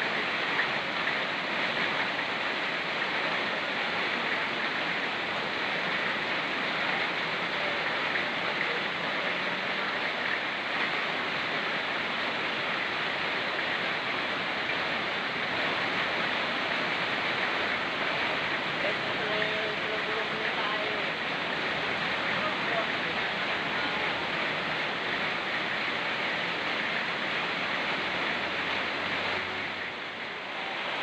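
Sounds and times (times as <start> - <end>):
rain falling in forest: 0.0 - 31.0
river rushing: 0.0 - 31.0.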